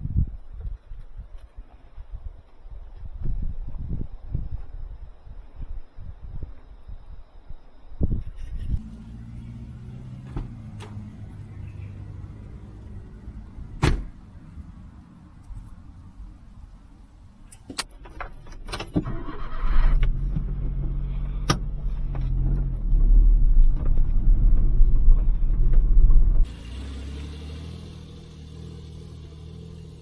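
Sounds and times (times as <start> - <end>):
small engine rumbling: 0.0 - 30.0.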